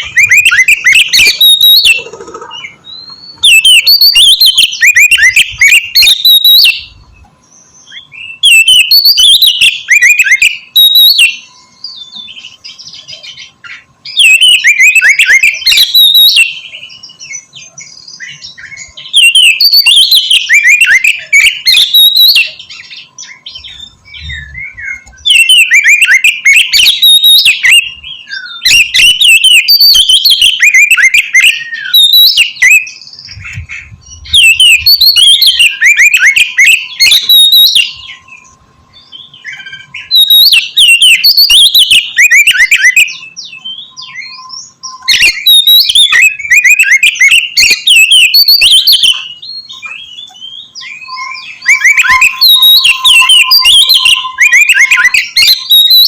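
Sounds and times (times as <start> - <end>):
bird singing whistles and chatter: 0.0 - 56.0.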